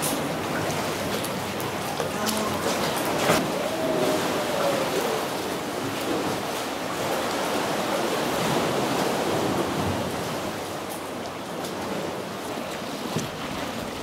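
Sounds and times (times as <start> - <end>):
ocean water washing: 0.0 - 14.0.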